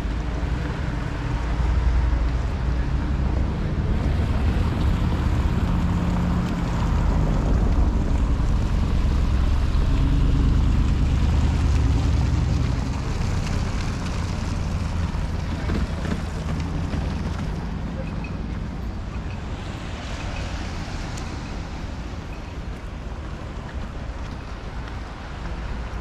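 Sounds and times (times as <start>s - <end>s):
engine-like drone: 0.0s - 26.0s
low rumble of city traffic: 0.0s - 26.0s.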